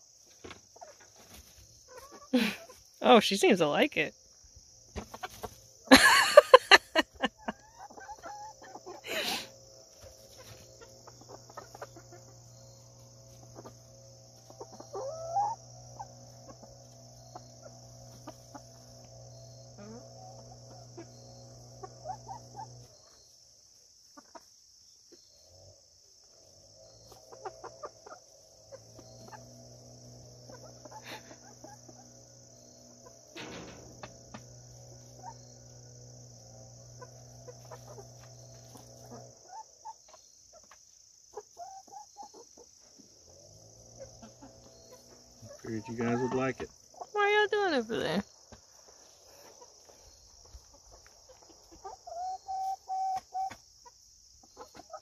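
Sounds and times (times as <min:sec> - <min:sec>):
chickens clucking: 0:00.0 - 0:55.0
high insect drone: 0:00.0 - 0:55.0.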